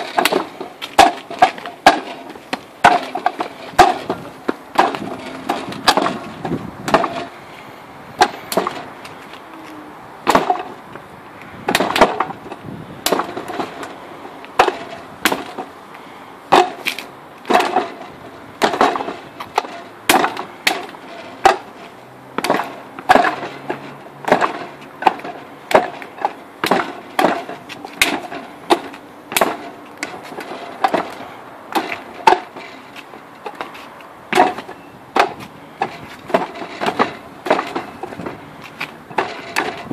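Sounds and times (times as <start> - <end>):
wooden dummy clacks: 0.0 - 7.4, 8.2 - 9.4, 10.2 - 11.0, 11.6 - 15.8, 16.5 - 39.9.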